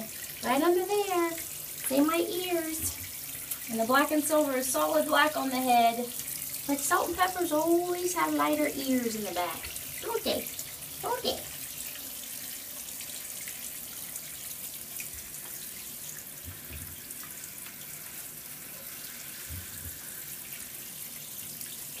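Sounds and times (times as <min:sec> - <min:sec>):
tap water running into tub: 0:00.0 - 0:22.0.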